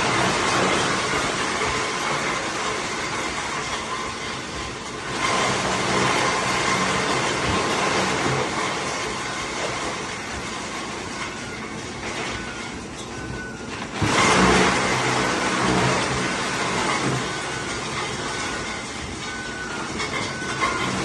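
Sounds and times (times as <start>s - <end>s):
industrial shredding machine running: 0.0s - 21.0s.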